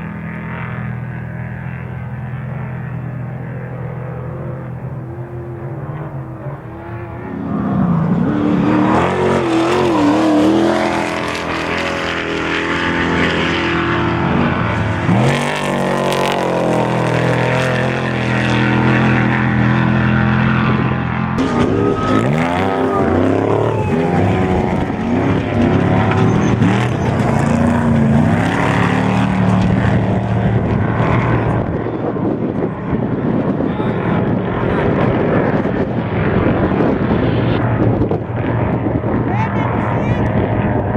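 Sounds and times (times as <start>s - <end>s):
race truck engine running hard: 0.0s - 40.9s.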